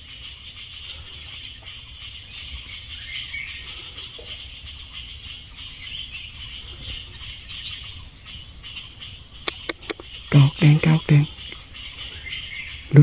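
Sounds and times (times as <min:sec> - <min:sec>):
bird chirps: 0:00.0 - 0:13.0
insects chorus: 0:00.0 - 0:13.0.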